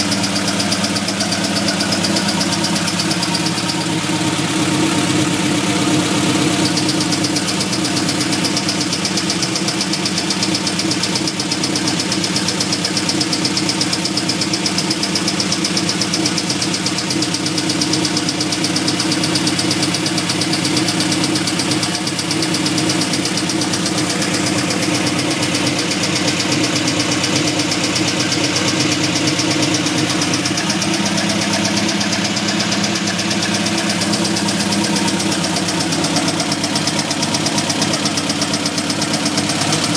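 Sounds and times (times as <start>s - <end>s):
engine idling with knocking: 0.0s - 39.9s.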